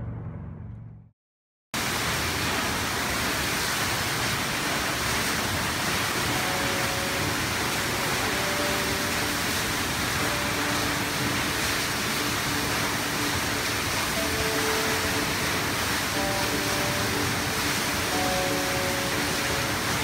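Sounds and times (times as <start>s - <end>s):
waterfall rushing: 1.8s - 20.0s.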